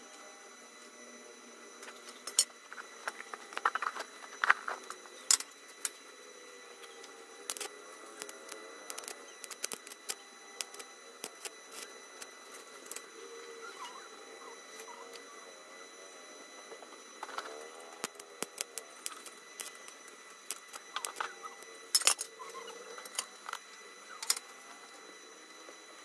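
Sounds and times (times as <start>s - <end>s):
arc welding crackling: 1.5s - 26.0s.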